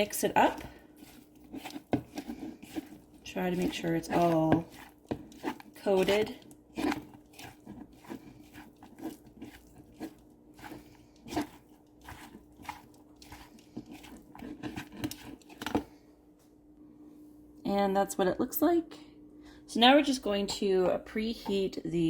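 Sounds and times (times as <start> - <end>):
food being mixed in a bowl: 0.0 - 16.0, 20.3 - 22.0.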